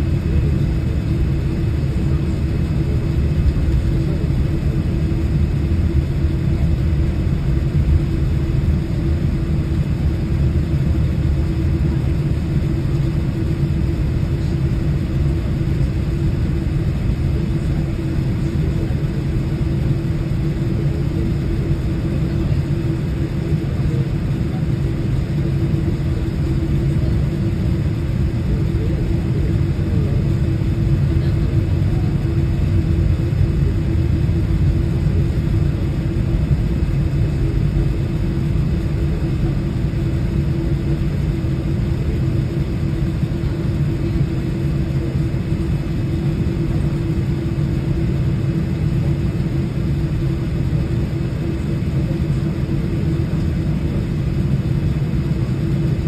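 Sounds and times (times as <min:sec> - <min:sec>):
airliner cabin rumble: 0:00.0 - 0:56.0
steady hum: 0:00.0 - 0:56.0.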